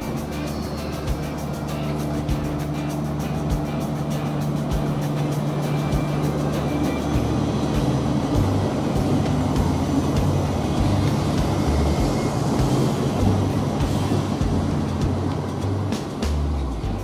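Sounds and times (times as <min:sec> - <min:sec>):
background music: 0:00.0 - 0:17.0
electric train rolling past: 0:00.0 - 0:17.0.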